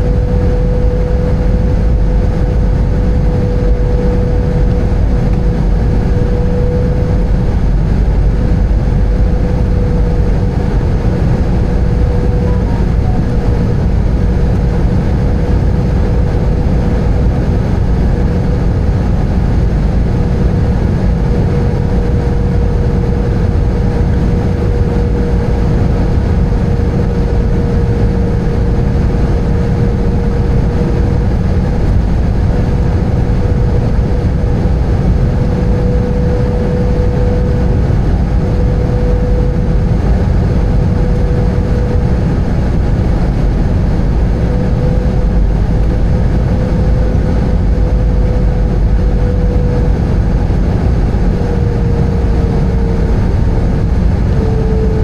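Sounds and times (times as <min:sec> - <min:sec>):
airplane cabin engine rumble: 0:00.0 - 0:55.0
constant hum: 0:00.0 - 0:55.0.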